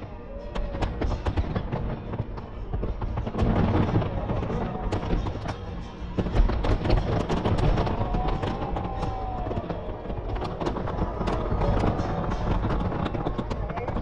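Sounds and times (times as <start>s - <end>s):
firework shells bursting: 0.7s - 14.0s.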